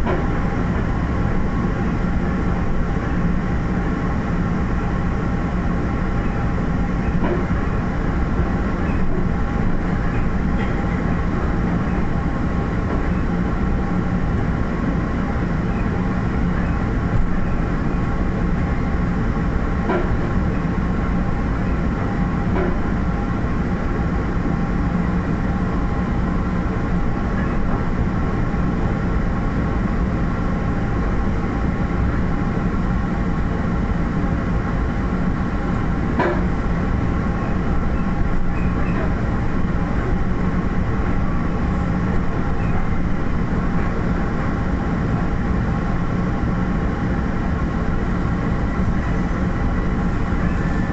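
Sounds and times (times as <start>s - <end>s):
train running noise with low hum: 0.0s - 50.9s.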